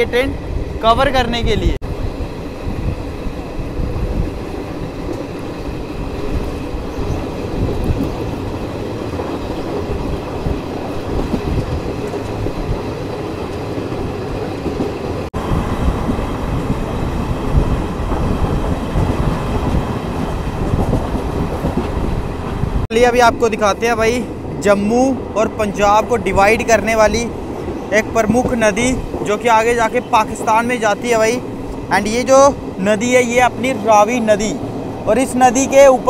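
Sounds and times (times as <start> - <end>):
train wheels on track: 0.0 - 36.0.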